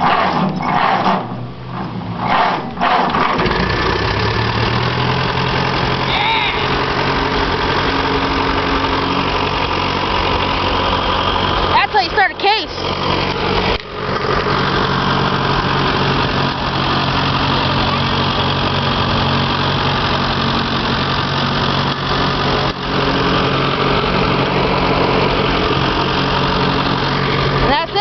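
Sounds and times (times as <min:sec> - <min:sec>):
tractor engine idling: 0:00.0 - 0:28.0.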